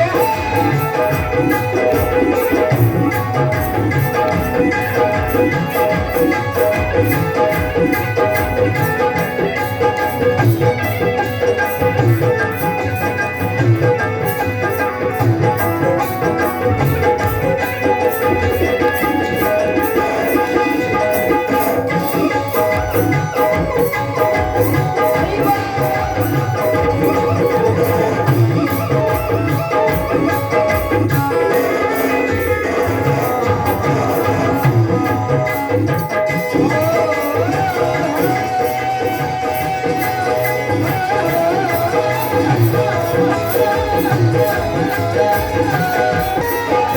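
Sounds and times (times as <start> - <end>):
hand drum rhythm: 0.0 - 46.9.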